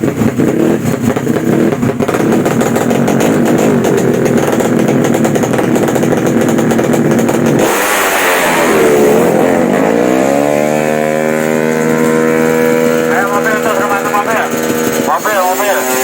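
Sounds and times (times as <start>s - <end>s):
motorcycle engines at high revs: 0.0s - 16.0s.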